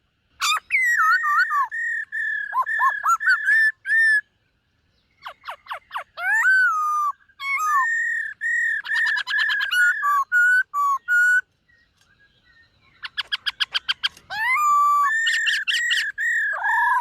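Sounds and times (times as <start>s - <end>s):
bird singing whistled notes: 0.4s - 17.0s.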